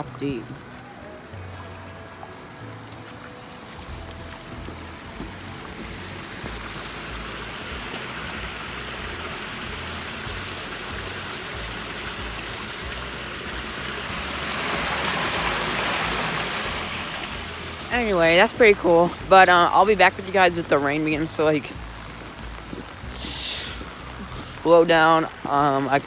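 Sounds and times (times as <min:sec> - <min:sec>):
rushing stormwater runoff: 0:00.0 - 0:26.0
heavy rain: 0:00.6 - 0:26.0.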